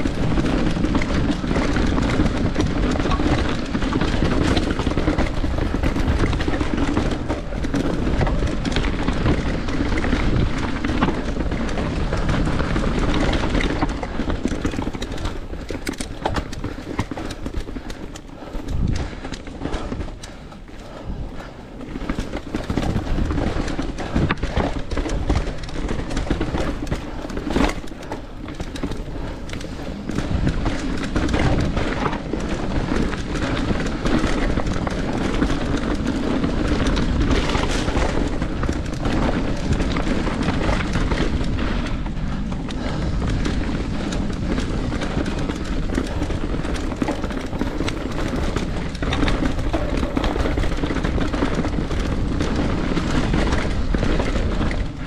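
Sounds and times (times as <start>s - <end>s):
bike clattering over rocks: 0.0s - 55.0s
wind and tyres on dirt rumble: 0.0s - 55.0s.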